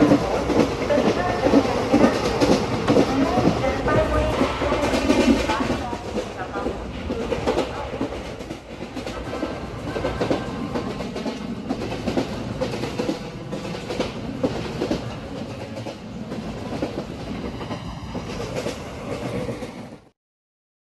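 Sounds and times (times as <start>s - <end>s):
train rumble: 0.0s - 20.1s
train wheels clickety-clack: 0.0s - 20.1s.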